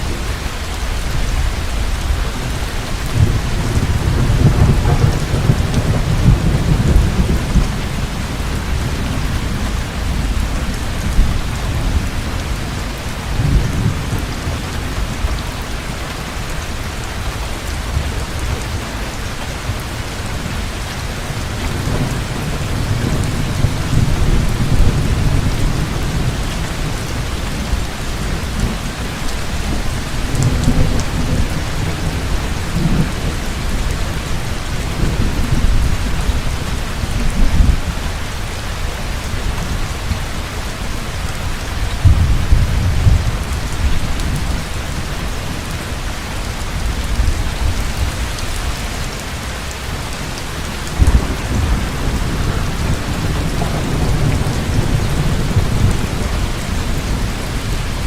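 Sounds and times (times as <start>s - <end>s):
heavy rain pouring: 0.0s - 58.0s
low thunder rumbling: 0.0s - 58.0s.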